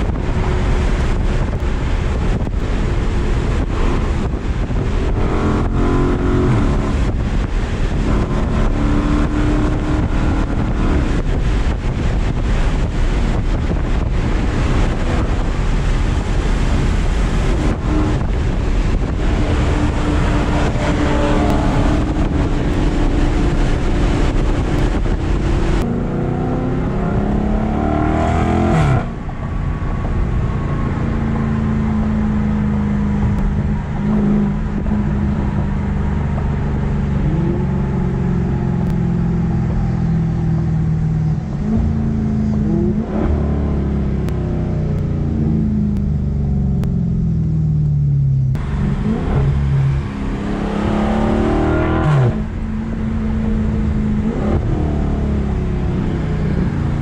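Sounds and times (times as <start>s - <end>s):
car engine droning: 0.0s - 57.0s
road noise: 0.0s - 57.0s
wind noise: 0.0s - 57.0s.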